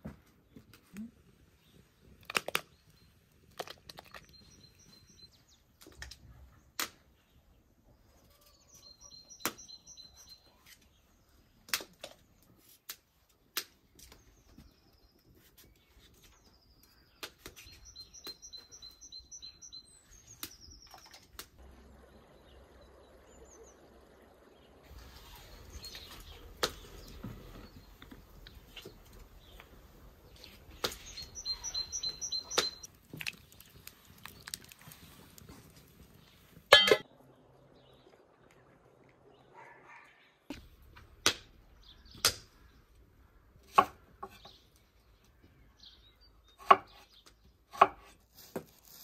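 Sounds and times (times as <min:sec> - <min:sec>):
songbird singing: 0:01.5 - 0:12.5, 0:13.9 - 0:40.6, 0:41.5 - 0:47.8.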